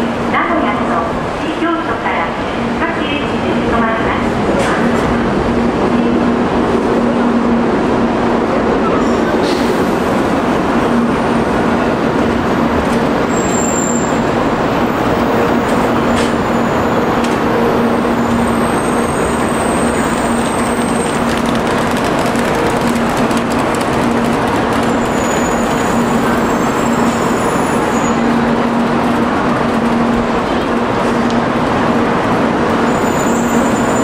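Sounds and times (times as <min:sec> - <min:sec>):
train wheels rumbling: 0:03.5 - 0:34.0.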